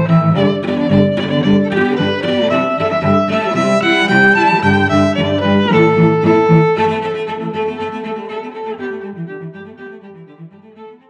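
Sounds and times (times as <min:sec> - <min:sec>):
bowed strings melody: 0:00.0 - 0:11.0.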